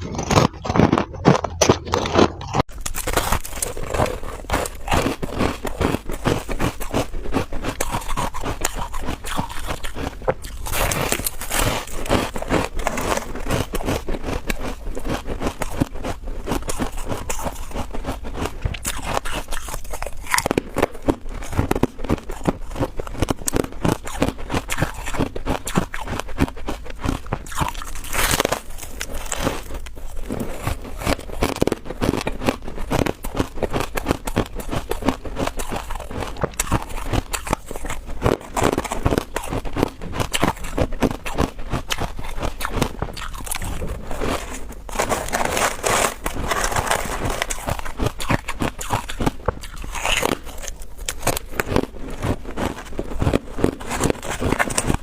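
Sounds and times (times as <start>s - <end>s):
crunching and chewing frost: 0.0s - 55.0s.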